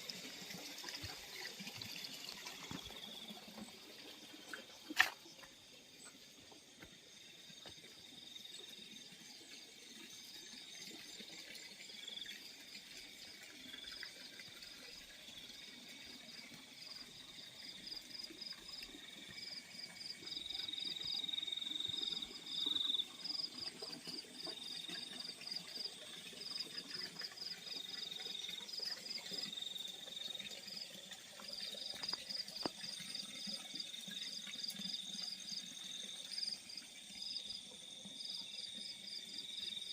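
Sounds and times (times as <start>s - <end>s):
crickets chirping in pulses: 0.1s - 39.9s.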